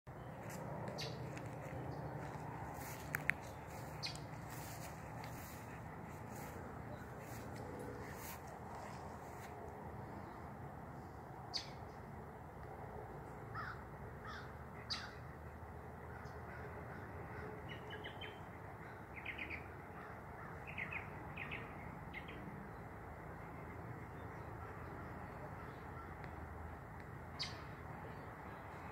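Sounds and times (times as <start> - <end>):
outdoor background noise: 0.1 - 28.9.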